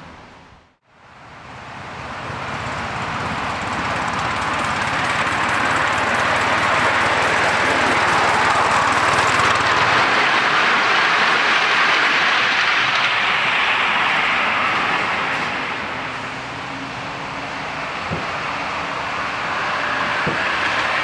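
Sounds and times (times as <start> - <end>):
train wheels running: 1.4 - 21.0
steam hissing: 1.9 - 21.0.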